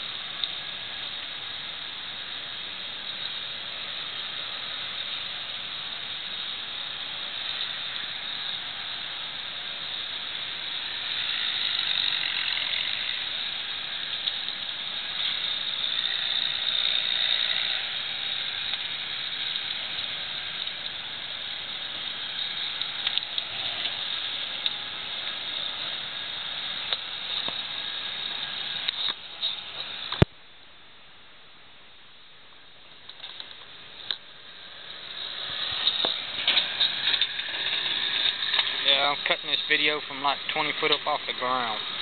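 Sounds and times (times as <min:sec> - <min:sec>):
brush fire hissing and crackling: 0:00.0 - 0:31.0, 0:32.0 - 0:42.0.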